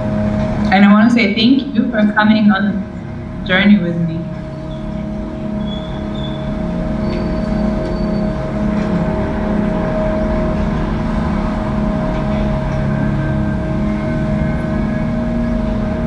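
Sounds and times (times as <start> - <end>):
held mid-pitched drone tone: 0.0 - 16.0
pulsing low hum: 0.0 - 16.0.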